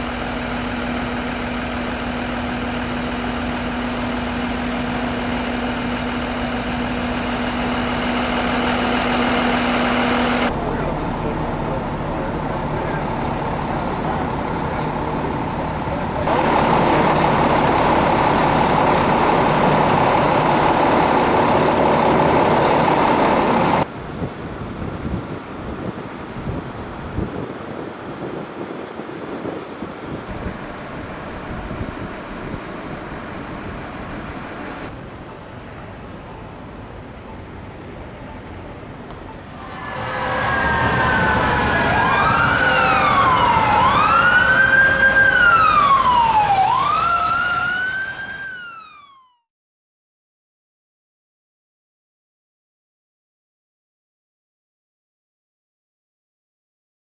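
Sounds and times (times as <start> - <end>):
emergency sirens wailing: 0.0 - 23.9, 25.6 - 49.4
city street traffic noise: 0.0 - 48.8.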